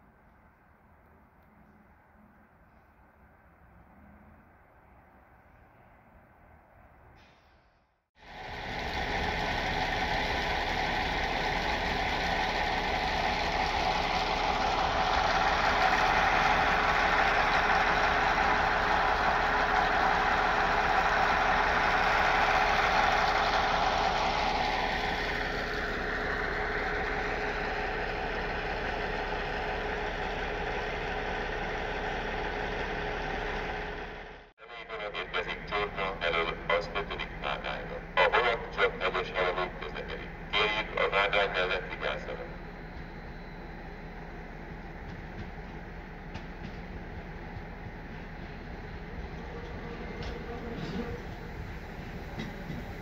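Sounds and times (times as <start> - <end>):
train whine: 1.4 - 53.0
train rolling on tracks: 8.2 - 53.0.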